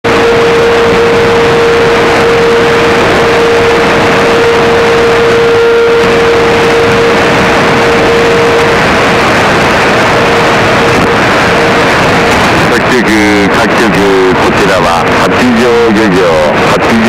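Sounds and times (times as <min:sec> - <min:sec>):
radio static hiss: 0:00.1 - 0:17.0.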